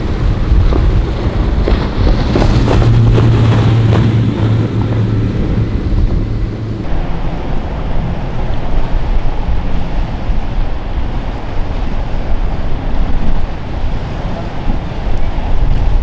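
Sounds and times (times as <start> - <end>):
boats running: 0.0 - 16.0
surf rushing: 0.0 - 16.0
wind rumbling on microphone: 0.0 - 16.0.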